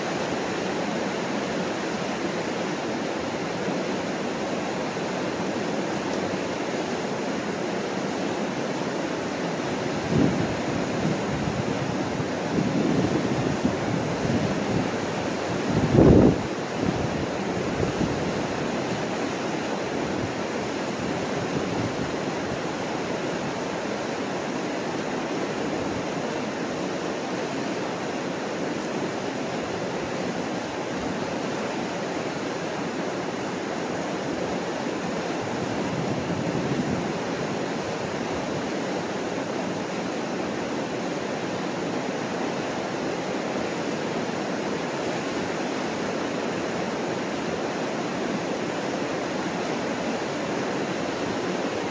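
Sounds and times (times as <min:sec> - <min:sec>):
river rapids roaring: 0:00.0 - 0:51.9.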